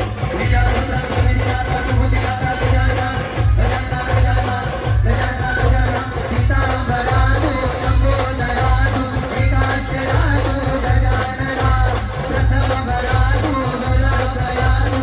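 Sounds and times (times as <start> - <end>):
heavy drum beat: 0.0 - 15.0.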